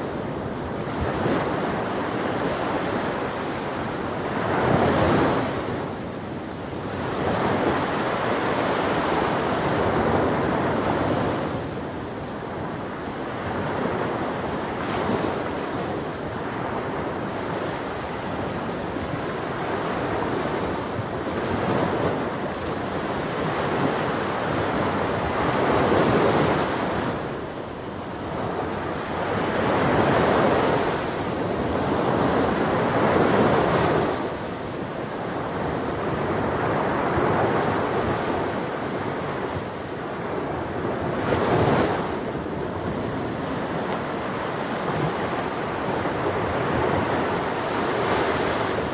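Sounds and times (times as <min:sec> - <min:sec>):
ocean surf washing onto beach: 0:00.0 - 0:48.9
wind on microphone: 0:00.0 - 0:48.9.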